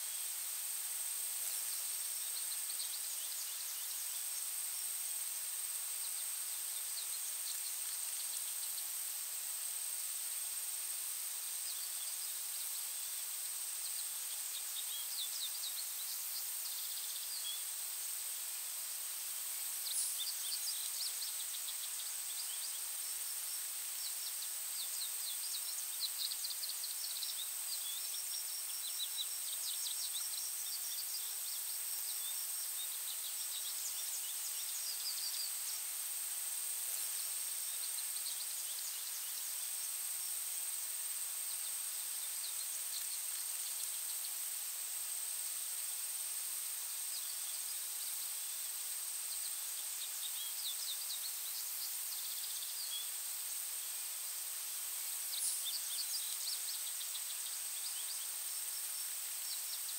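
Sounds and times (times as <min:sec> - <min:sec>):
soft hiss: 0:00.0 - 0:59.9.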